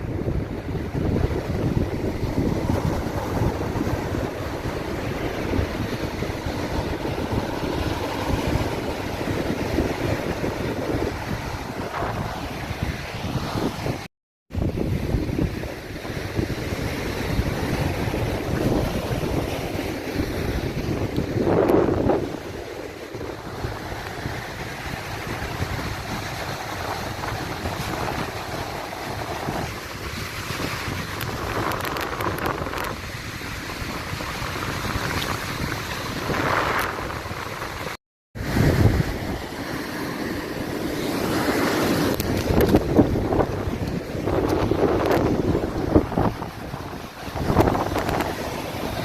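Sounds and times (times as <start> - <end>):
surf rushing: 0.0 - 49.0
wind buffeting microphone: 0.0 - 49.0.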